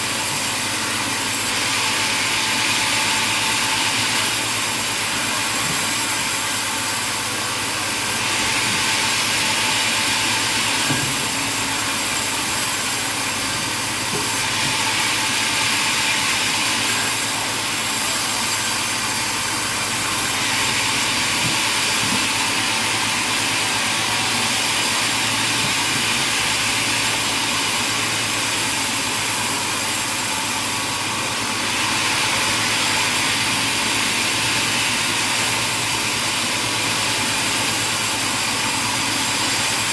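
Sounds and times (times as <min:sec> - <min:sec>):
sawmill machinery hissing: 0:00.0 - 0:39.9.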